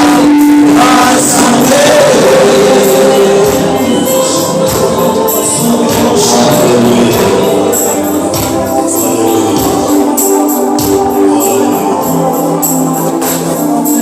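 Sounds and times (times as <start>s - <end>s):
gospel worship music: 0.0s - 14.0s.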